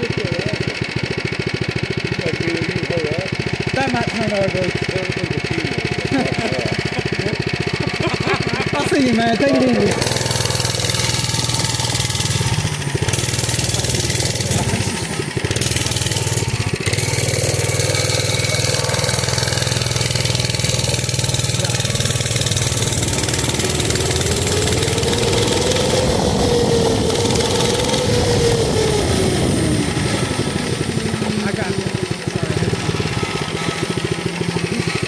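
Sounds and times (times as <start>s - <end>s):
mini bike engine revving: 0.0s - 35.0s.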